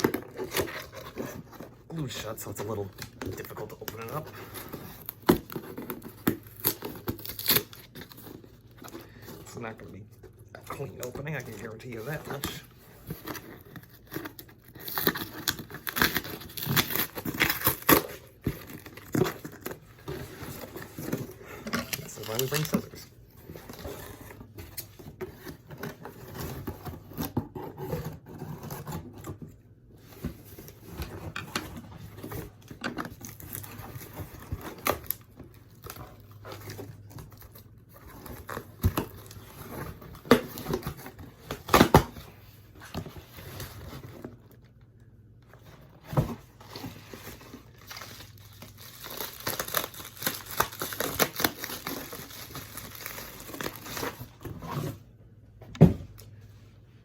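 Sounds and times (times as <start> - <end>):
cardboard tearing: 0.0 - 9.8, 10.6 - 29.4, 30.1 - 44.4, 45.7 - 55.0
cardboard crinkling: 0.0 - 55.1.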